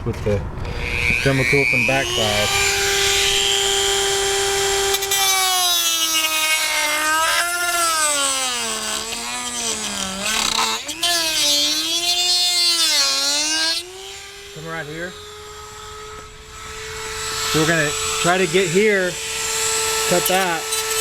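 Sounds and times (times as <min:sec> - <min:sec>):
rotary tool cutting plastic: 0:00.6 - 0:21.0.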